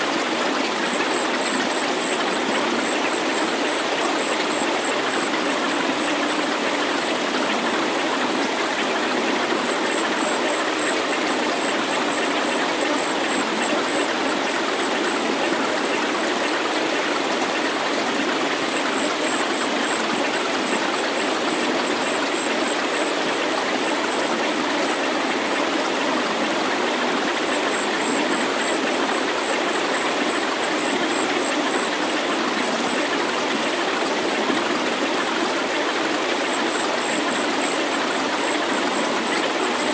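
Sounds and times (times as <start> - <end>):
faint high-pitched pulsing tone: 0.0 - 16.9, 18.2 - 39.9.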